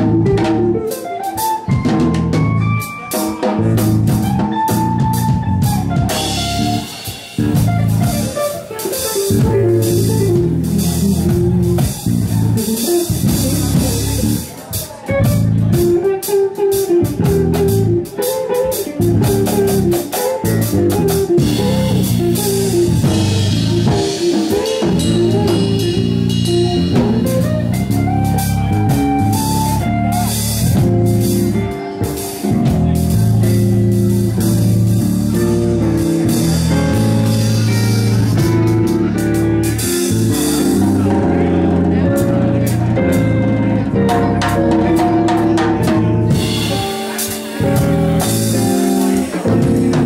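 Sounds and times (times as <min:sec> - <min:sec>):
bass: 0:00.0 - 0:50.0
drum kit with ride cymbal: 0:00.0 - 0:50.0
electric guitar melody: 0:00.0 - 0:50.0.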